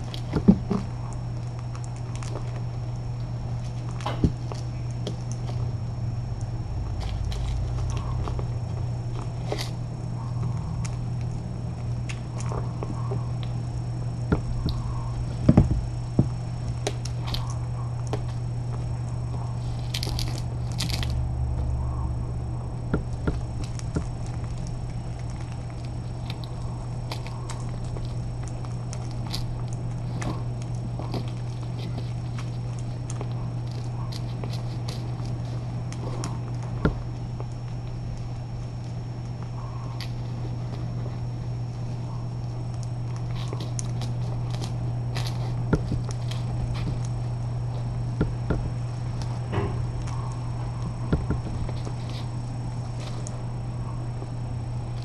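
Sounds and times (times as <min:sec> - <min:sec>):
kitten crunching dry food: 0:00.0 - 0:55.0
steady low hum: 0:00.0 - 0:55.0.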